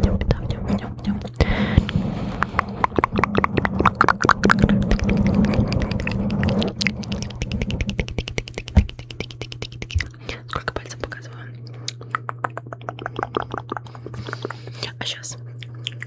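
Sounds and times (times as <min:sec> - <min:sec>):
wet mouth clicks and smacks: 0:00.0 - 0:15.0, 0:15.6 - 0:16.0.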